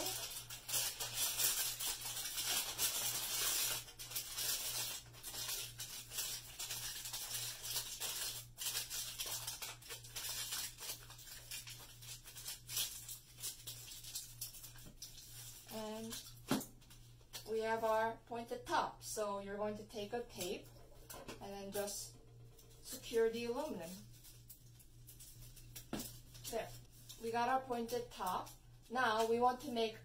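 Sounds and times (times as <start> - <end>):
aluminum foil crinkling: 0.0 - 17.5, 20.2 - 29.8.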